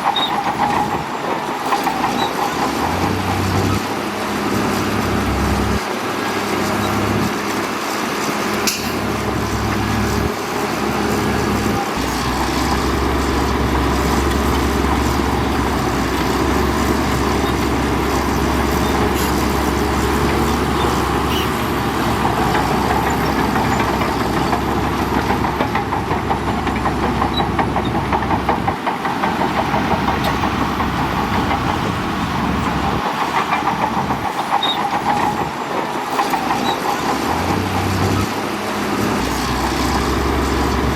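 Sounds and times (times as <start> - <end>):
diesel earthmoving machinery running: 0.0 - 40.9.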